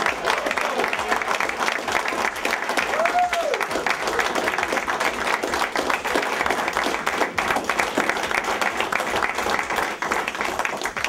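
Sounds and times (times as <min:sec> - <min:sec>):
group applauding: 0:00.0 - 0:11.0.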